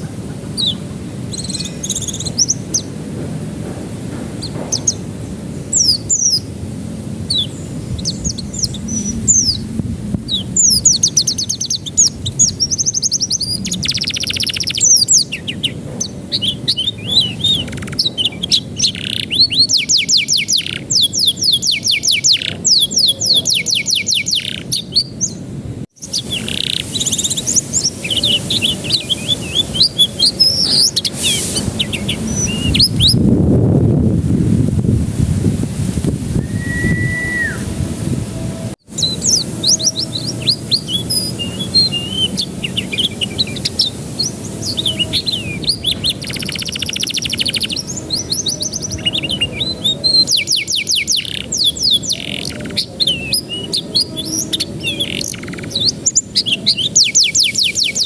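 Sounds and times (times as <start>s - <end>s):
canary singing trills: 0.0s - 3.0s, 4.4s - 6.5s, 7.3s - 25.4s, 26.0s - 33.3s, 38.9s - 58.0s.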